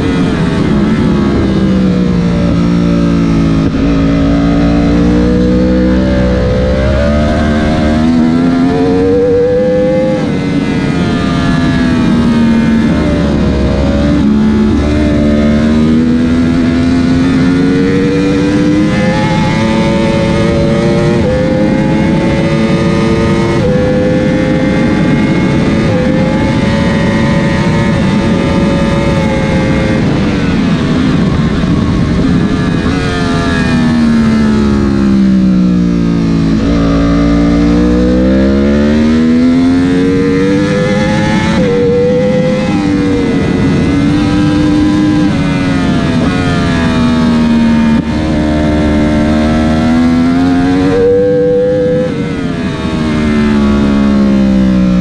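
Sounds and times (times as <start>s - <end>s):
motorcycle engine revving: 0.0s - 55.0s
quick gear upshifts: 0.0s - 55.0s
wind rush: 0.0s - 55.0s.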